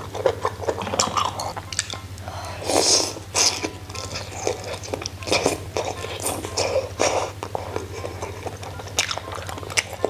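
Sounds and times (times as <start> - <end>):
person slurping and chewing: 0.0 - 2.0, 2.6 - 10.0.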